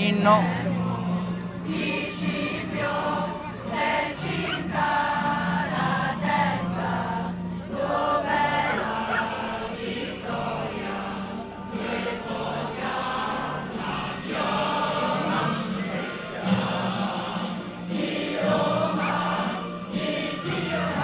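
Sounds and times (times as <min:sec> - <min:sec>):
backing music: 0:00.0 - 0:21.0
choir singing an anthem: 0:00.0 - 0:21.0.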